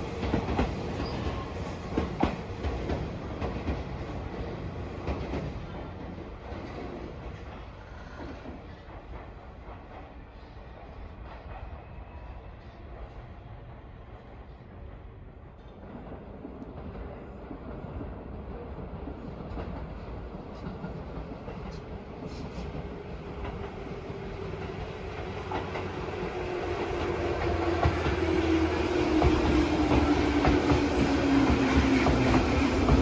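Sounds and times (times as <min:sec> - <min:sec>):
train approaching: 0:00.0 - 0:33.0.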